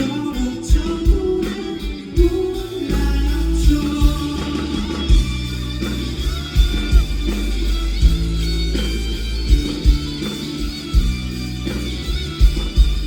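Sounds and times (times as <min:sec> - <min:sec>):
bass line: 0:00.0 - 0:13.0
electric guitar: 0:00.0 - 0:13.0.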